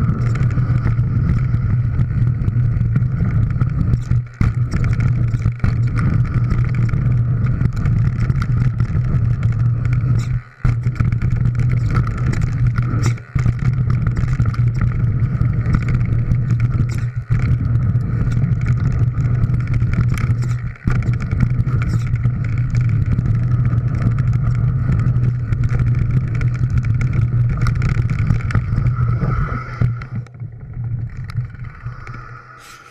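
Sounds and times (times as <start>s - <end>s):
bike knocks and rattles: 0.0s - 31.9s
bike tyres on gravel: 0.0s - 32.9s
wind rumble: 0.0s - 32.9s.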